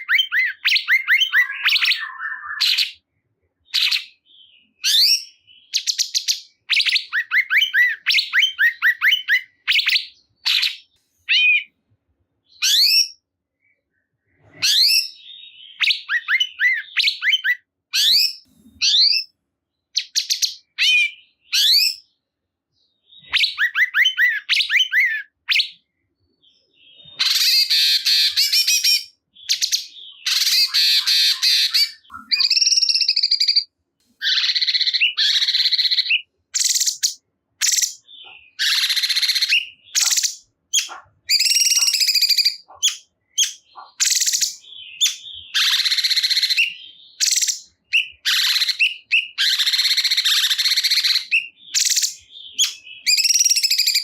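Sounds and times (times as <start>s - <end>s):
songbird chattering and chirping: 0.0s - 11.8s, 12.4s - 54.0s.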